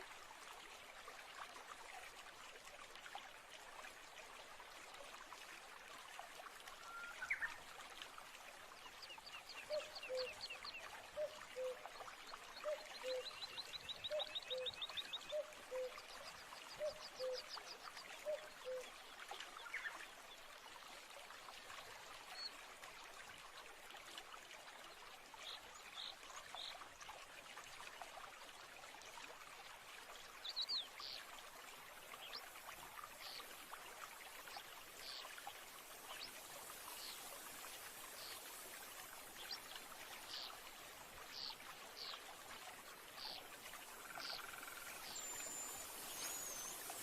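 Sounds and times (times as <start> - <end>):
stream trickling: 0.0 - 47.0.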